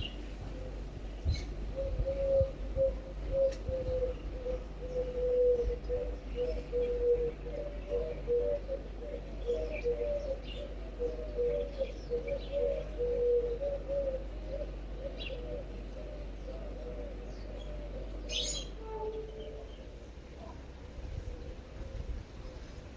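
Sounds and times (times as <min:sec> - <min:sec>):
doves cooing: 0:00.0 - 0:22.9
small birds chirping: 0:00.0 - 0:22.9.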